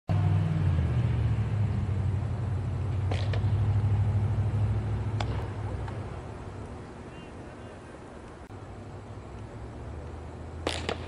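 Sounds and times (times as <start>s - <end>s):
low hum and rumble: 0.1s - 11.0s.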